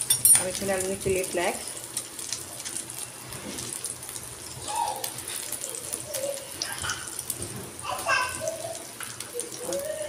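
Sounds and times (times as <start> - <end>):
chicken sizzling in frying pan: 0.0 - 10.0.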